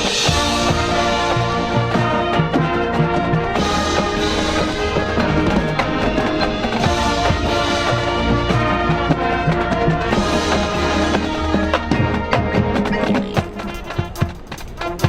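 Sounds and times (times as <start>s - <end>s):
brass sustained chords: 0.0s - 15.0s
drums and percussion: 0.0s - 15.0s.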